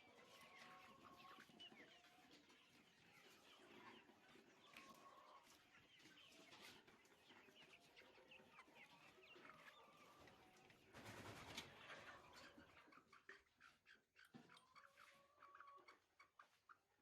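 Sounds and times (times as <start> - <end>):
poultry clucking: 0.0 - 17.0.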